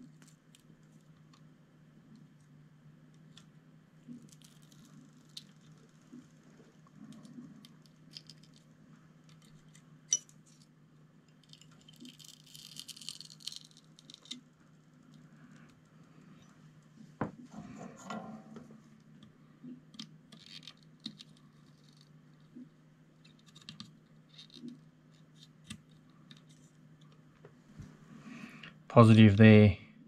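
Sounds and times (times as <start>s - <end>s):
faint clicks and scratches: 0.0s - 27.9s
low steady hum: 0.0s - 30.0s.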